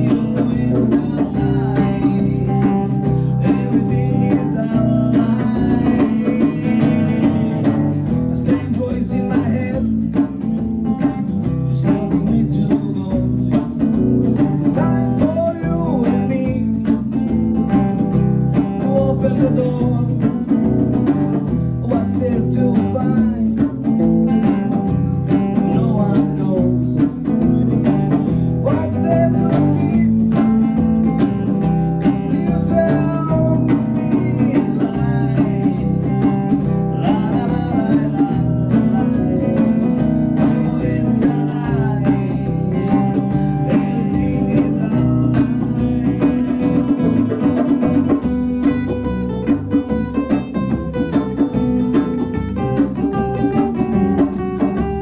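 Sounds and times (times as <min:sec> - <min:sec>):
live country-blues band: 0:00.0 - 0:55.0
prominent bass line: 0:00.0 - 0:55.0.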